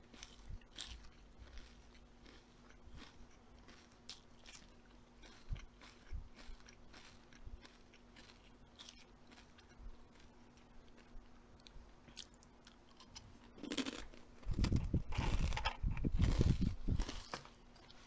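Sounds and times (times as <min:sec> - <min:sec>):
chewing crisp food: 0:00.0 - 0:18.0.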